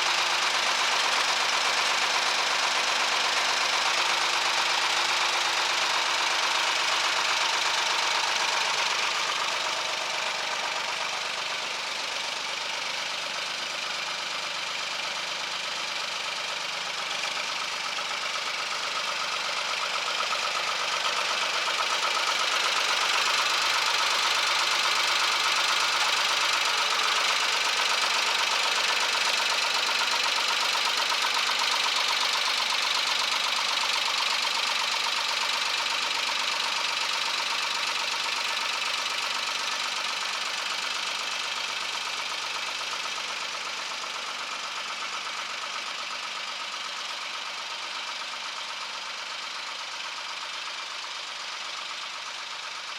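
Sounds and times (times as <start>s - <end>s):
tractor diesel engine knocking: 0.0s - 52.9s.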